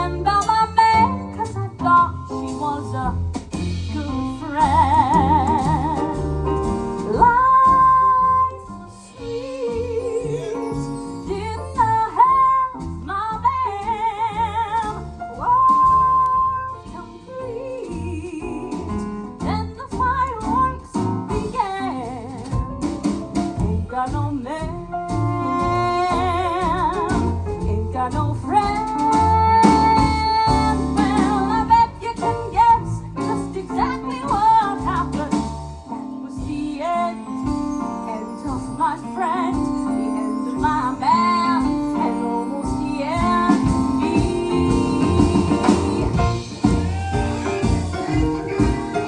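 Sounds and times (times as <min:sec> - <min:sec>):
blues band playing: 0:00.0 - 0:49.0
walking bass line: 0:00.0 - 0:49.0.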